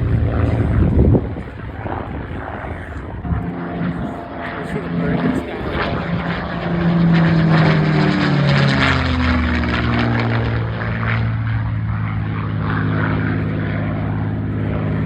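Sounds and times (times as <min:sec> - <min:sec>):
propeller plane passing by: 0:00.0 - 0:15.0.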